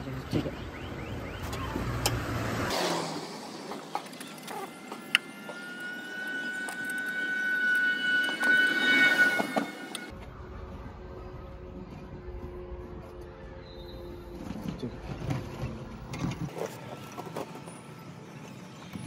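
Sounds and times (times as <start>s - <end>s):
outdoor background noise: 0.0s - 19.0s
steady high whine: 3.1s - 19.0s.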